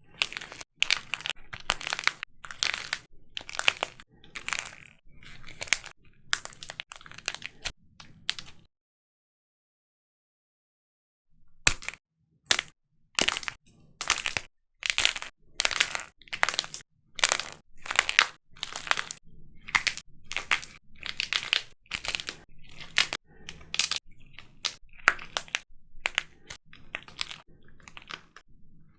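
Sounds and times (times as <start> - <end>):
dried clay crunching: 0.0 - 8.7, 11.7 - 28.4.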